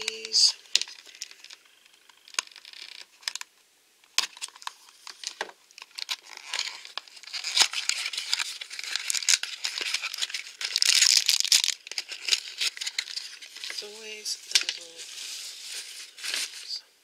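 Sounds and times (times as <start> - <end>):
plastic wrapper crinkling: 0.0 - 16.8.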